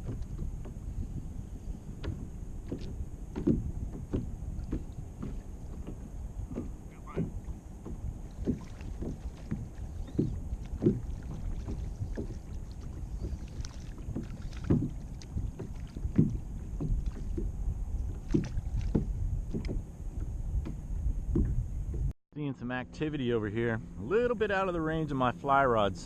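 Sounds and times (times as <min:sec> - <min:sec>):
small waves lapping against a kayak: 0:00.0 - 0:22.1
low steady rumble: 0:00.0 - 0:26.0.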